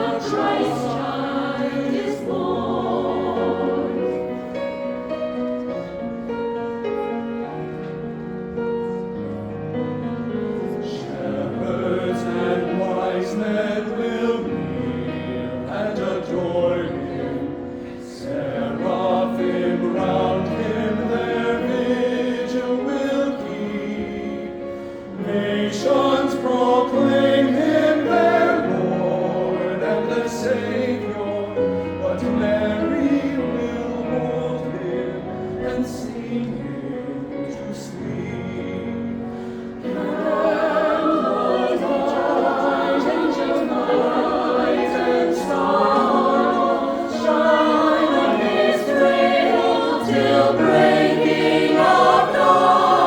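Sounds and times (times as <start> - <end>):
choir singing a carol: 0.0 - 53.0.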